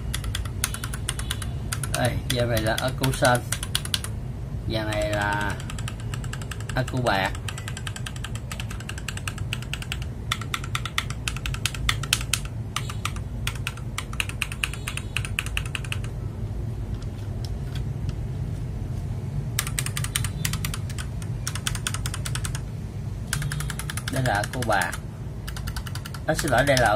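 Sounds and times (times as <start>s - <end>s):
mechanical keyboard typing: 0.0s - 4.1s, 4.8s - 16.2s, 19.6s - 22.7s, 23.3s - 26.9s
steady low hum: 0.0s - 26.9s.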